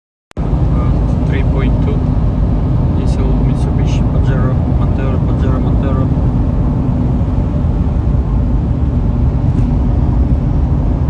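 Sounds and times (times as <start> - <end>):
diesel engine running: 0.4 - 11.0.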